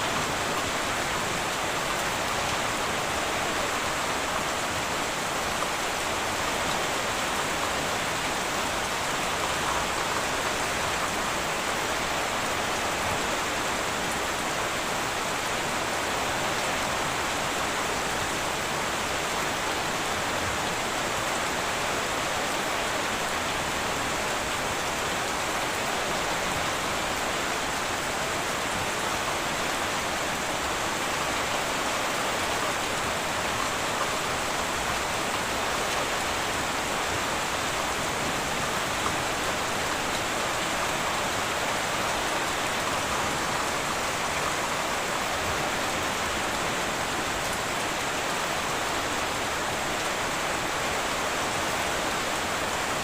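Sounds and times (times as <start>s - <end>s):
heavy rain on a tin roof: 0.0s - 53.0s.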